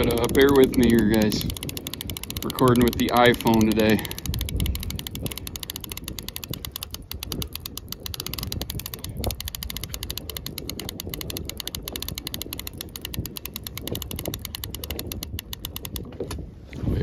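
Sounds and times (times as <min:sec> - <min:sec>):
fishing reel clicking: 0:00.0 - 0:16.4.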